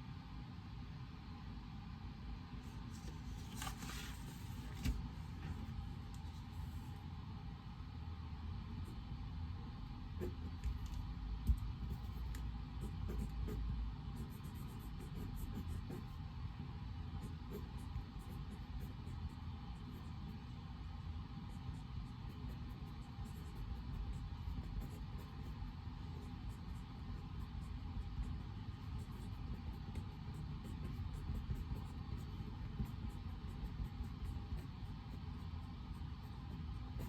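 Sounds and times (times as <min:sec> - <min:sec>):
low hum and rumble: 0:00.0 - 0:37.0.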